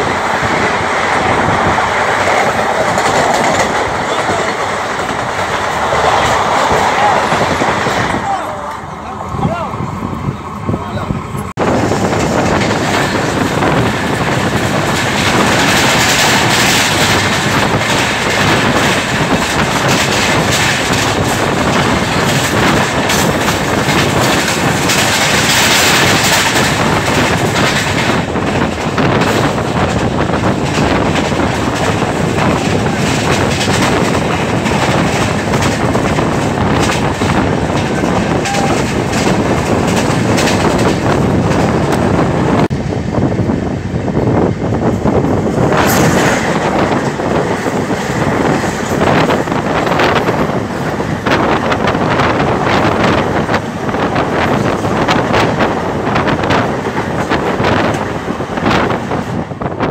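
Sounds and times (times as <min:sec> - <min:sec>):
train wheels clattering over rail joints: 0:00.0 - 0:08.8, 0:11.4 - 0:42.8, 0:44.4 - 0:59.9
passing train rushing and clattering: 0:00.0 - 0:59.9
wind noise: 0:00.0 - 0:59.9.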